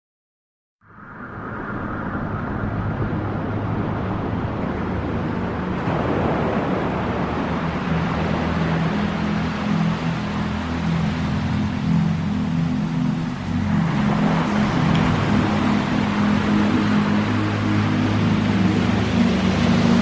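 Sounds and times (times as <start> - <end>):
whoosh of noise: 0.8 - 20.0
trance music: 3.5 - 20.0.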